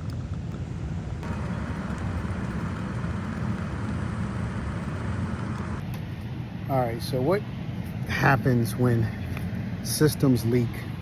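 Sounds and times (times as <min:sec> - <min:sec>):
air conditioner humming: 0:01.2 - 0:11.0.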